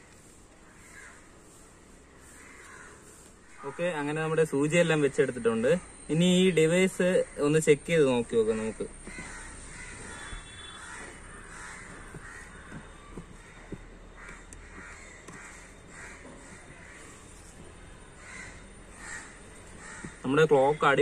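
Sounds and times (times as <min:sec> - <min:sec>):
faint bird calls: 0:00.0 - 0:05.1, 0:05.8 - 0:21.0.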